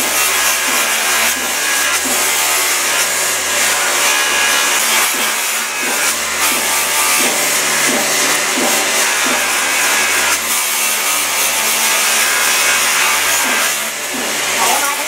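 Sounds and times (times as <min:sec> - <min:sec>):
electric motor humming: 0:00.0 - 0:15.0
metal grinding on abrasive wheel: 0:00.0 - 0:15.0.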